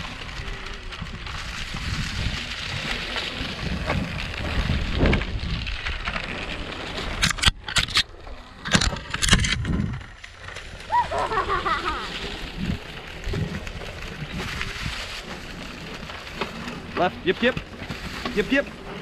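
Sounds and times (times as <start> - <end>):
wind buffeting microphone: 0.0 - 7.6, 8.8 - 10.2, 10.8 - 19.0
sharp crunches and clatters: 0.0 - 19.0
wheels rolling over dirt trail: 0.0 - 19.0.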